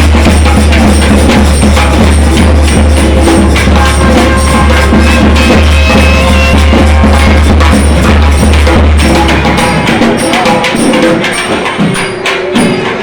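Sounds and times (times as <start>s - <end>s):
dense percussion music: 0.0s - 13.0s
held pitched tones: 2.2s - 13.0s.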